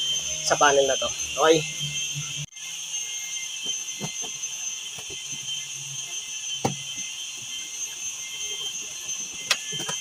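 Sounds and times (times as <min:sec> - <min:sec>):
high-pitched whine: 0:00.0 - 0:10.0.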